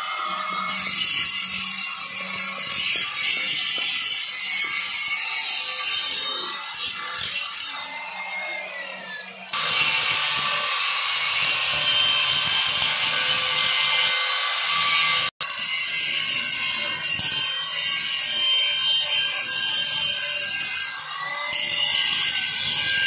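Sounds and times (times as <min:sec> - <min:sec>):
angle grinder grinding metal: 0:00.0 - 0:23.0.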